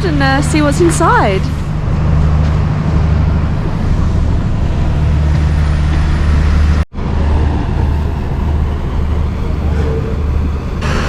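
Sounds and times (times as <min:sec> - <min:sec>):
boat engines droning: 0:00.0 - 0:11.0.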